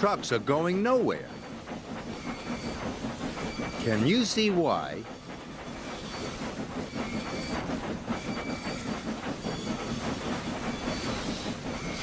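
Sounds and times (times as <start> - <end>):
steam hissing: 0.0 - 12.0
steam locomotive chuffing: 0.0 - 12.0.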